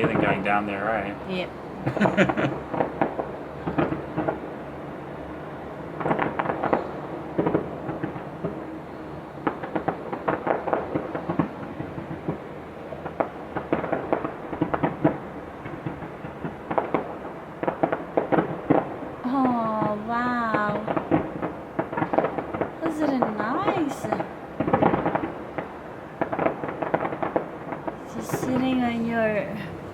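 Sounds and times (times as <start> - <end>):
distant fireworks popping: 0.0 - 29.9.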